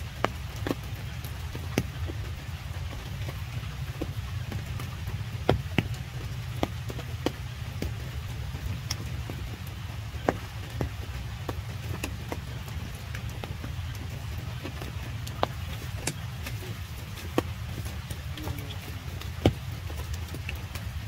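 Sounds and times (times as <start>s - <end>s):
rain falling: 0.0s - 21.0s
raindrops tapping leaves and puddles: 0.0s - 21.0s.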